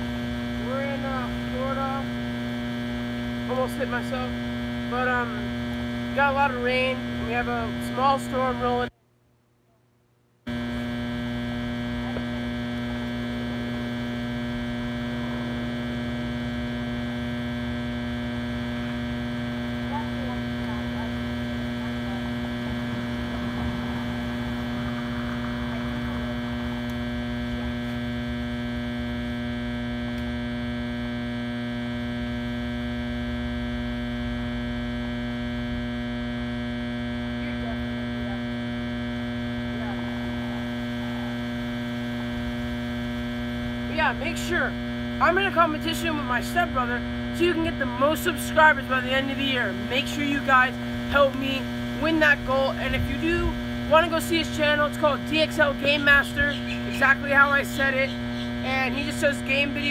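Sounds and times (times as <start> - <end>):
loud electrical hum: 0.0 - 9.0, 10.4 - 59.9.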